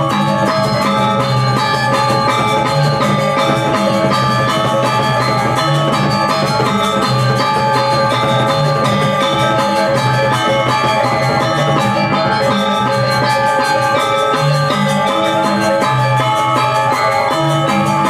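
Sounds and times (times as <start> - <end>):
drumming: 0.0 - 18.0
metallophone notes ringing: 0.0 - 18.0.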